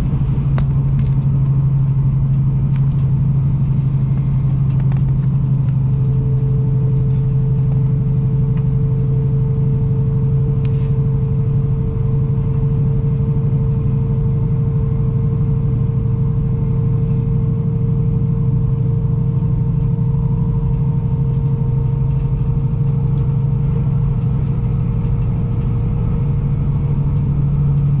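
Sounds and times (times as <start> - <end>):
constant hum: 0.0 - 28.0
train rumble inside carriage: 0.0 - 28.0.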